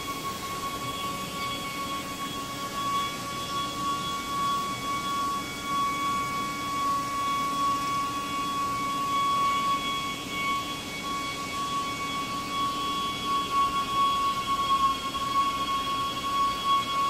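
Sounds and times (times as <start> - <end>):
lathe running with high whine: 0.0 - 17.0.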